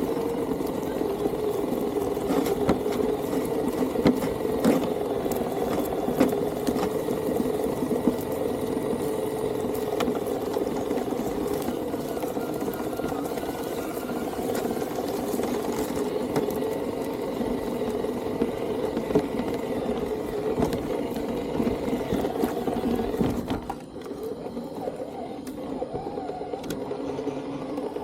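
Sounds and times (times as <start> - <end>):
toy truck motor whirring: 0.0 - 28.0.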